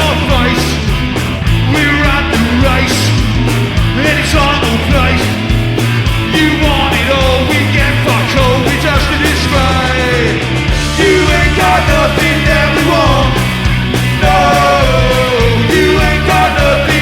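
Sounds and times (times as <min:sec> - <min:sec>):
lead vocal singing: 0:00.0 - 0:17.0
punk rock band playing live: 0:00.0 - 0:17.0.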